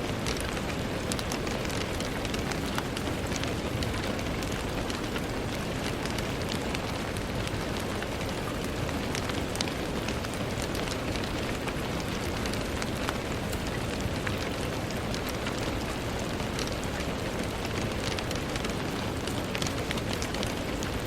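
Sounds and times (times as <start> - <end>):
rain on a window pane: 0.0 - 21.0.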